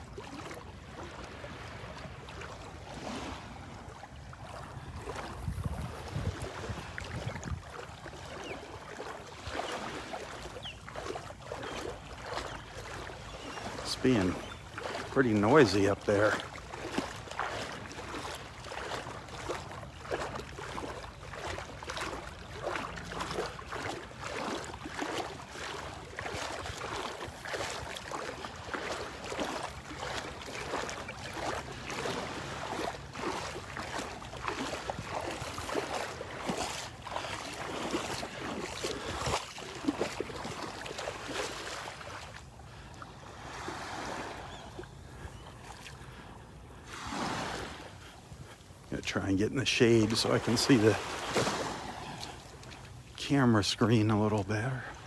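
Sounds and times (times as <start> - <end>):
footsteps splashing through water: 0.0 - 55.0
gentle surf lapping: 0.0 - 55.0.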